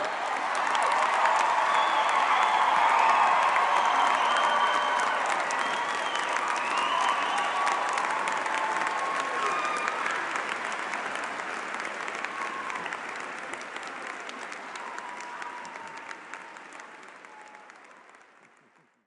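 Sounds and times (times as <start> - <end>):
large crowd applauding: 0.0 - 19.0.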